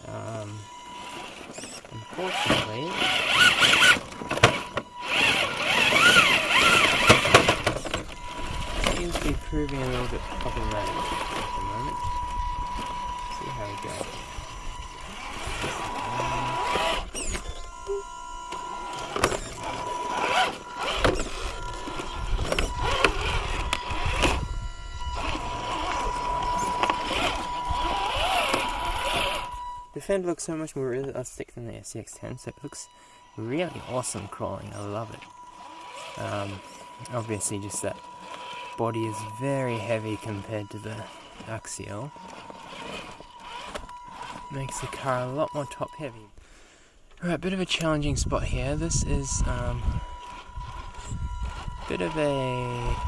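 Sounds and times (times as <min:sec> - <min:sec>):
electric motor whining: 0:00.0 - 0:30.0, 0:32.0 - 0:53.0.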